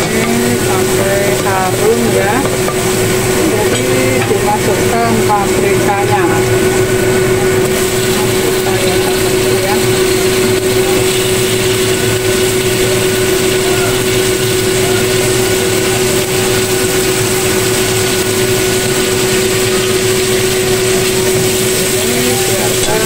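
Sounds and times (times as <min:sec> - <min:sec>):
loud machine hum: 0:00.0 - 0:23.0
vegetables sizzling in oil: 0:00.0 - 0:23.0.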